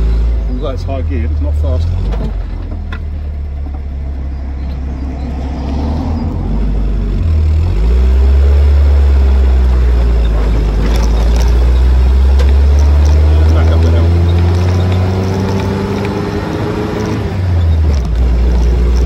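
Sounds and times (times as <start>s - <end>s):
jeep engine running: 0.0s - 19.0s.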